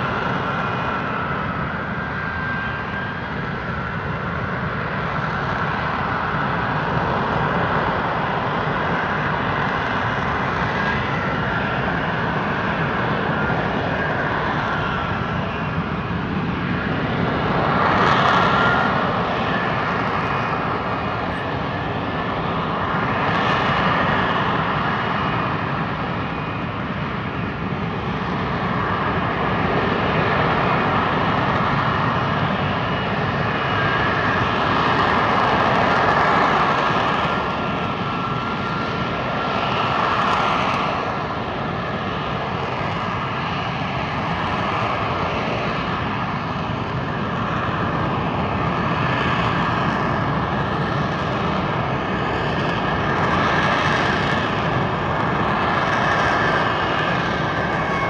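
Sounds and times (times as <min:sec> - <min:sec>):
high jet whine: 0:00.0 - 0:58.0
jet engine roar: 0:00.0 - 0:58.0.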